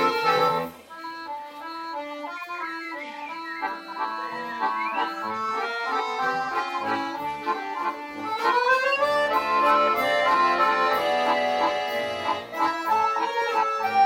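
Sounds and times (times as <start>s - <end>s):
accordion orchestra playing: 0.0s - 14.0s.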